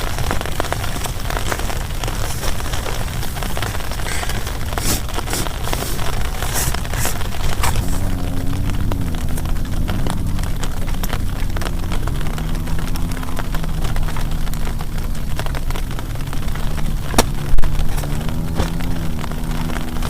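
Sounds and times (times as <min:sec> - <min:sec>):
heavy rain on plastic tarp: 0:00.0 - 0:20.0.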